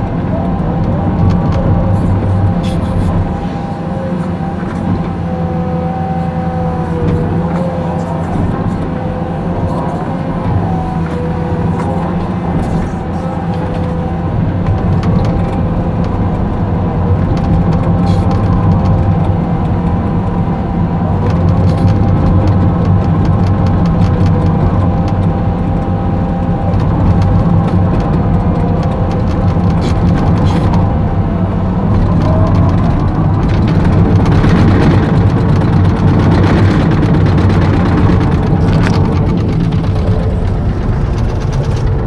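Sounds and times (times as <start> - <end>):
diesel engine running: 0.0 - 42.0
steady whine: 0.0 - 42.0
tracks working over loose soil: 0.0 - 42.0.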